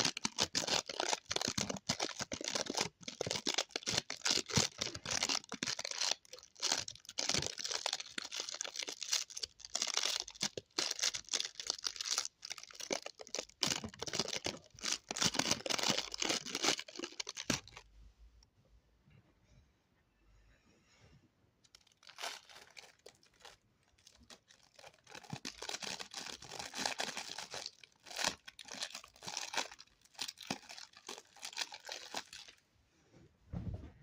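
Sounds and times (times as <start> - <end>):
crinkling and crackling clicks: 0.0 - 17.9, 21.6 - 32.6.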